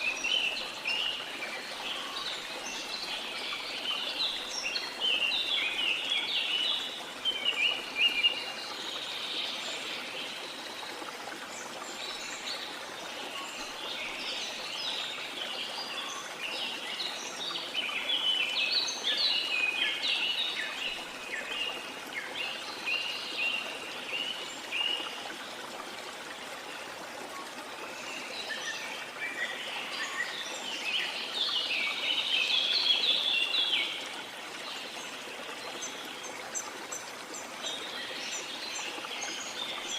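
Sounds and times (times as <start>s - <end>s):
rush of running water: 0.0s - 39.9s.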